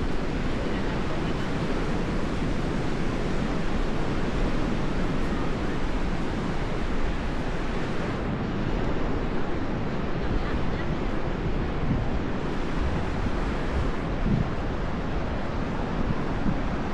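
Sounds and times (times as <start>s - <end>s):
sea surf rushing: 0.0s - 16.9s
wind buffeting microphone: 0.0s - 16.9s.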